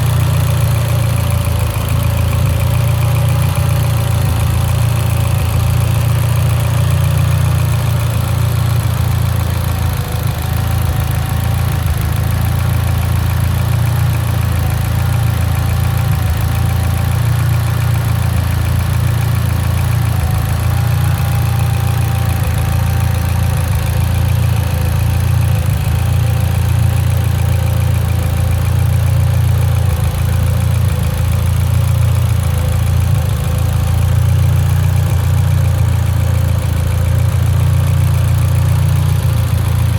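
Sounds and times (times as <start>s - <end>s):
car engine idling with misfire: 0.0s - 39.9s.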